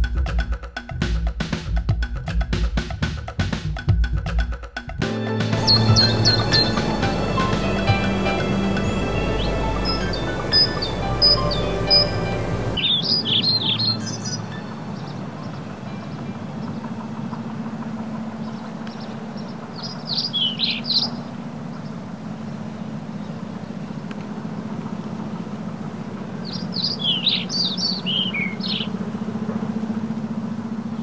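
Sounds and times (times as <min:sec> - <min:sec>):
songbird singing: 0:05.2 - 0:31.0
steady low hum: 0:05.6 - 0:31.0.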